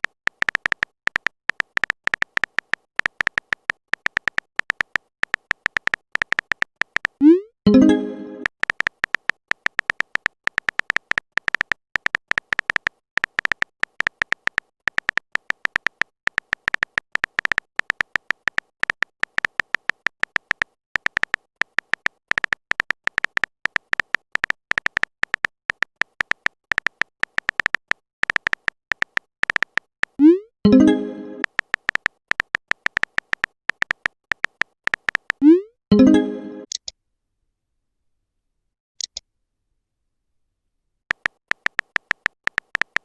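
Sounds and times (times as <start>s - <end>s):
short electronic typing blips: 0.3s - 36.9s.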